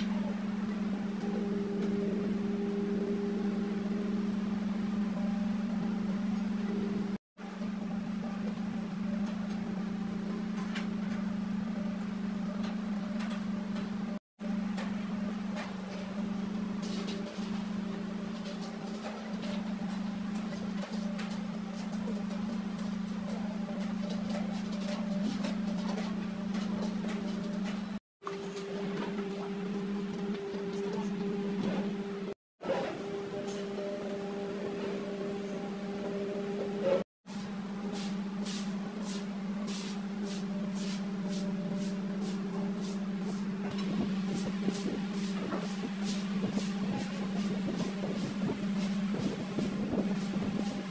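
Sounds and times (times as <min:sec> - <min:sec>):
steady low hum: 0:00.0 - 0:28.0, 0:28.7 - 0:50.9.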